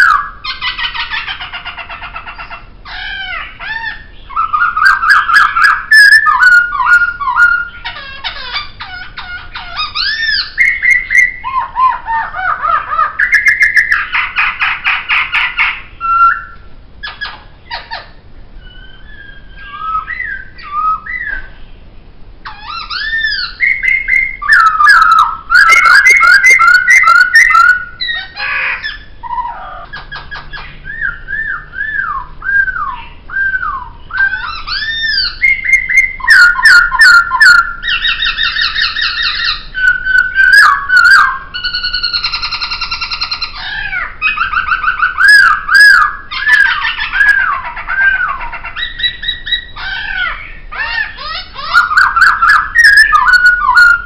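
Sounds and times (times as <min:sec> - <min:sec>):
bird singing whistles and trills: 0:00.0 - 0:21.8, 0:22.4 - 0:54.0.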